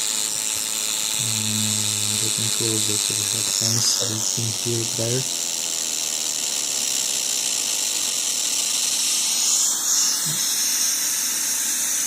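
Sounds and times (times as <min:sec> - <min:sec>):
high-pitched hiss and fizz: 0:00.0 - 0:12.0.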